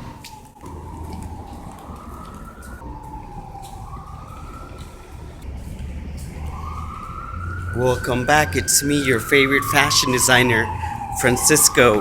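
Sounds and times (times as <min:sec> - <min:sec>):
low rumble: 0:00.0 - 0:12.0
siren wailing: 0:00.0 - 0:12.0.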